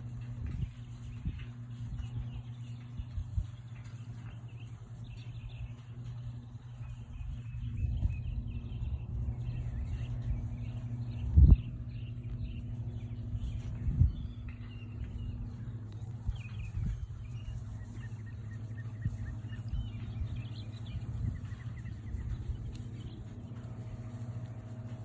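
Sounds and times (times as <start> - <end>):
birds chirping: 0.0 - 25.0
low motor hum: 0.0 - 25.0.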